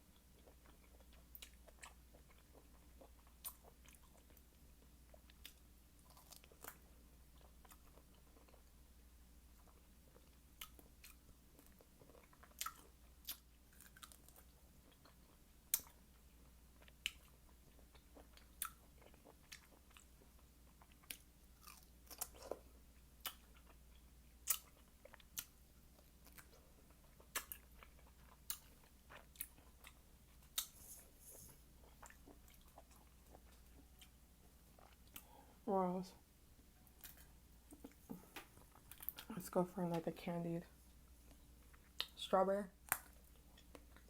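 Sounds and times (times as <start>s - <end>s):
chewing fresh fruit: 0.1s - 35.5s, 36.8s - 40.0s, 40.8s - 42.2s, 42.8s - 44.0s.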